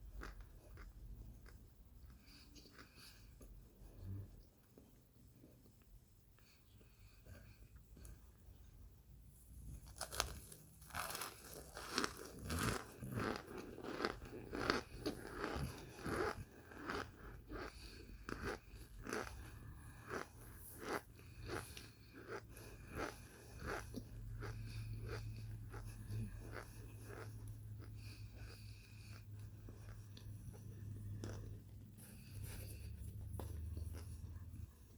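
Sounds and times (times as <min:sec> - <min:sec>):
crunching and chewing: 0:00.0 - 0:04.1, 0:09.7 - 0:34.9.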